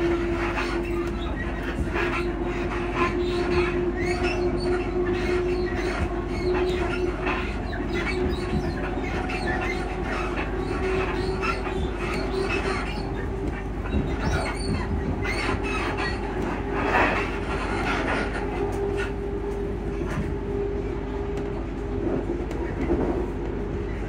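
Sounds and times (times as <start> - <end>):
constant hum: 0.0 - 24.0
knocks clicks and creaks: 0.0 - 24.0
train carriage rumble: 0.0 - 24.0.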